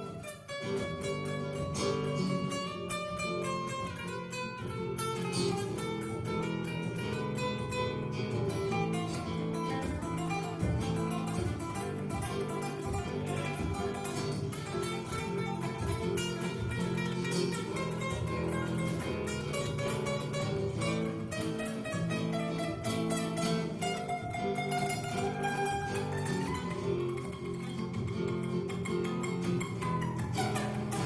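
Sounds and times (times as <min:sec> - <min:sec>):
plucked guitar-like strings: 0:00.0 - 0:31.0.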